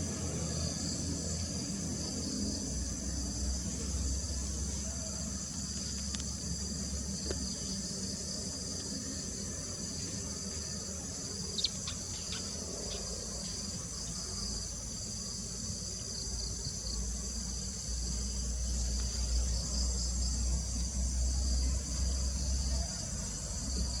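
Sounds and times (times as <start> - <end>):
insects chirping chorus: 0.0 - 24.0.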